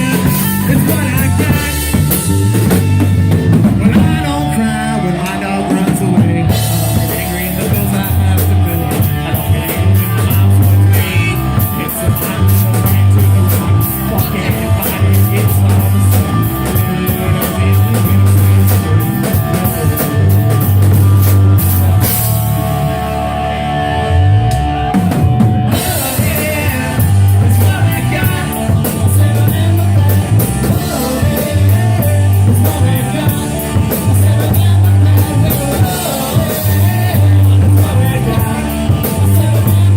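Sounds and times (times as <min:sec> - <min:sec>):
drum kit: 0:00.0 - 0:39.9
live rock band playing: 0:00.0 - 0:39.9
pulsing bass line: 0:00.0 - 0:39.9.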